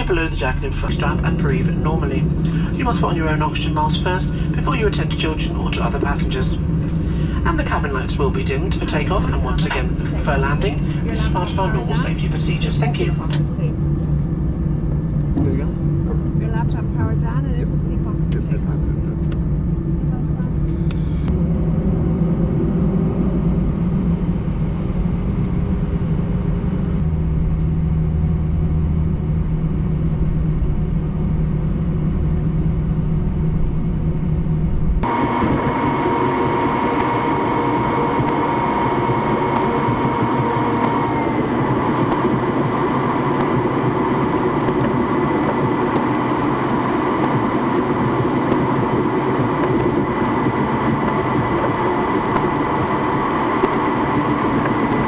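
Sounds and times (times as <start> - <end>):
airplane cabin engine rumble: 0.0 - 55.0
jet engine whining tones: 0.0 - 55.0.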